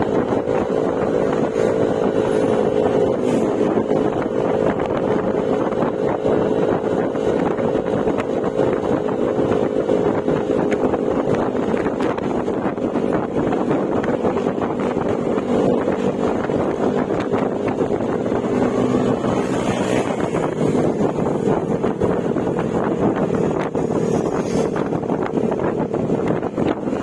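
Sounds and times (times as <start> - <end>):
scooter engine droning: 0.0 - 27.0
wind rushing over microphone: 0.0 - 27.0.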